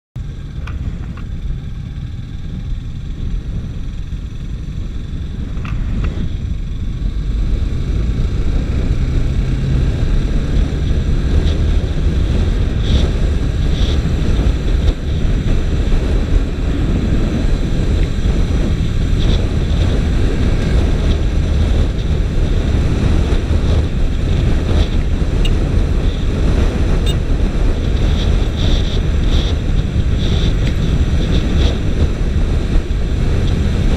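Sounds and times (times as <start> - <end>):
motorcycle and road rumble: 0.2 - 33.9
wind rushing over microphone: 0.2 - 33.9.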